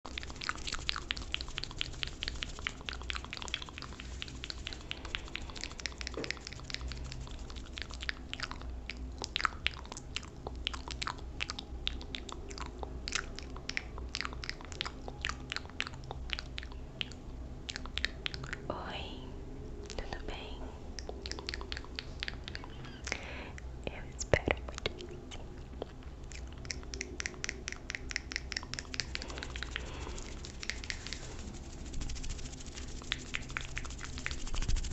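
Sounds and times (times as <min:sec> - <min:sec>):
faint low hum: 0:00.0 - 0:34.9
wet mouth clicks and lip smacks: 0:00.1 - 0:18.7, 0:21.0 - 0:23.2, 0:24.4 - 0:34.8.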